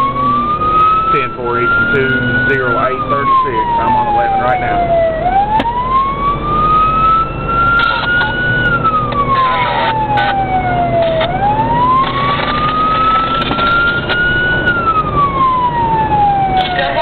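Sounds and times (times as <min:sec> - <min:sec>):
engine and road noise: 0:00.0 - 0:17.0
siren wailing: 0:00.0 - 0:17.0.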